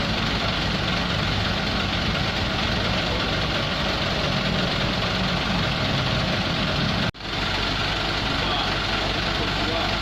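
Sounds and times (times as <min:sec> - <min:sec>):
crane engine running: 0:00.0 - 0:10.0.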